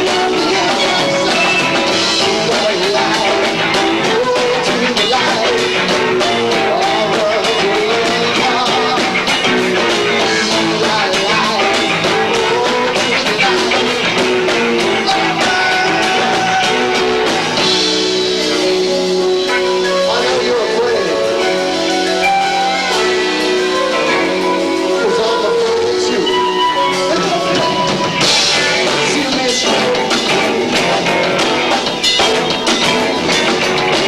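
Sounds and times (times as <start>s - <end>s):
live rock band playing loudly: 0.0s - 34.0s.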